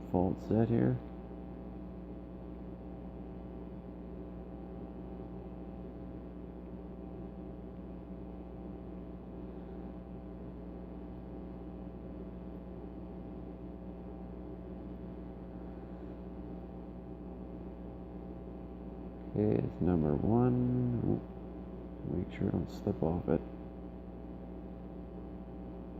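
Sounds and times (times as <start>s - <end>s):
steady tonal hum: 0.0s - 25.9s.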